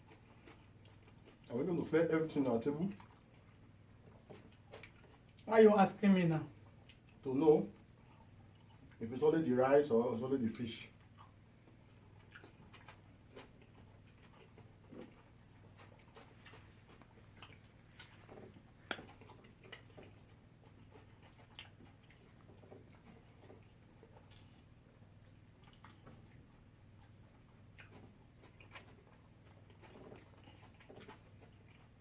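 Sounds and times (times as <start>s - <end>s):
chewing: 0.0s - 5.5s, 6.5s - 9.1s, 10.8s - 32.0s
low steady hum: 0.0s - 32.0s.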